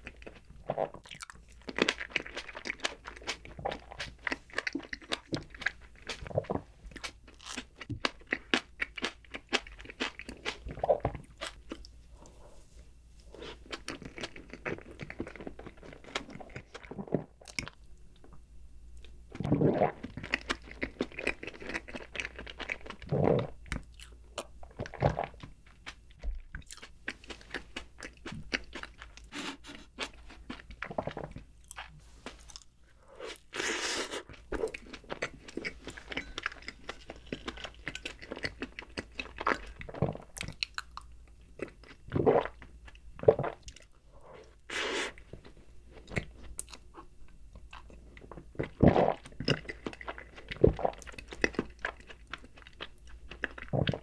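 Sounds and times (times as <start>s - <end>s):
chewing and wet mouth sounds: 0.0s - 12.4s, 13.3s - 18.3s, 19.0s - 54.0s.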